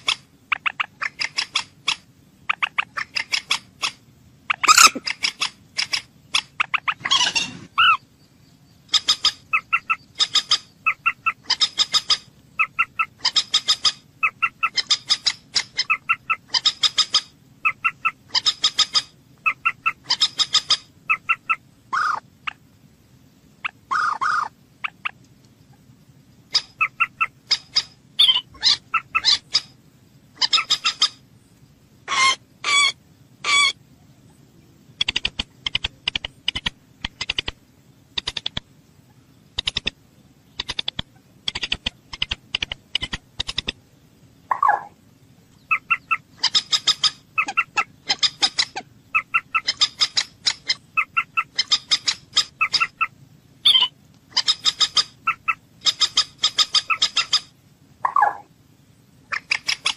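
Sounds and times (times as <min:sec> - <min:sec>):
moorhen calling: 0:00.0 - 0:22.7, 0:23.6 - 0:31.3, 0:32.0 - 0:58.5, 0:59.2 - 0:59.9.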